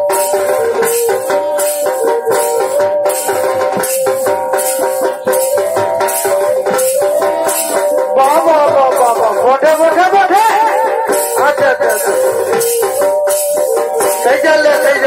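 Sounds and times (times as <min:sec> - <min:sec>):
barrel drums beating: 0:00.0 - 0:15.0
sustained reed melody: 0:00.0 - 0:15.0.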